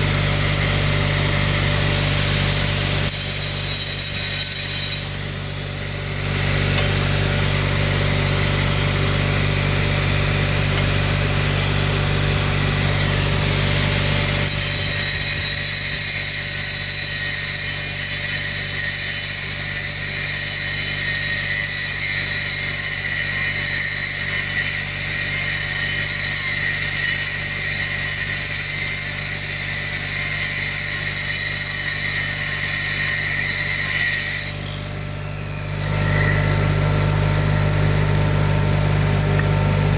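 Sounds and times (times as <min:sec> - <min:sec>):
power tool running under load: 0:00.0 - 0:39.9.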